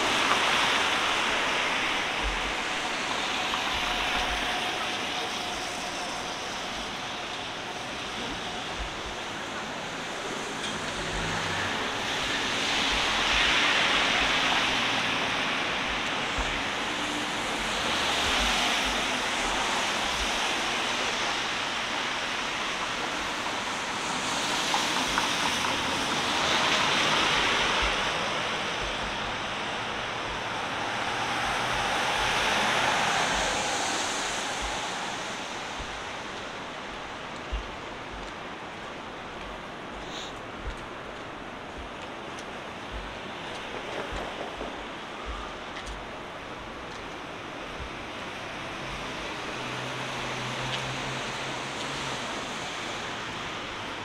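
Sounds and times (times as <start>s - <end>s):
steady traffic hum: 0.0s - 54.0s
vehicles passing: 0.0s - 54.0s.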